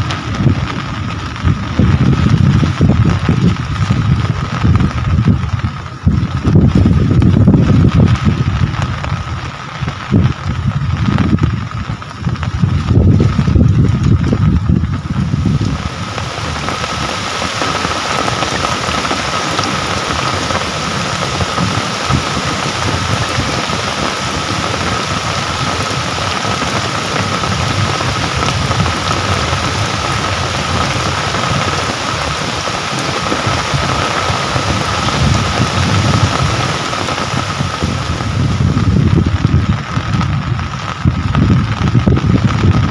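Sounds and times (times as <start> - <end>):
low gusty rumble: 0.0 - 42.9
steady rainfall: 0.0 - 42.9.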